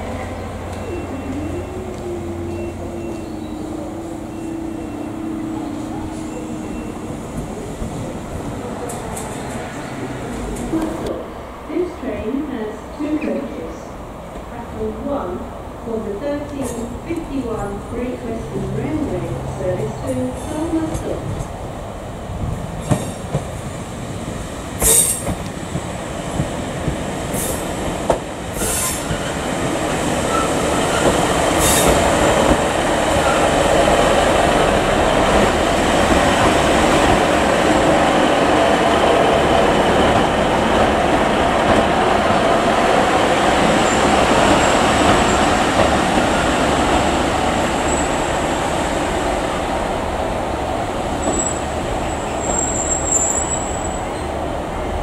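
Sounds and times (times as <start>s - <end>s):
train engine and wheels rumble: 0.0s - 55.0s.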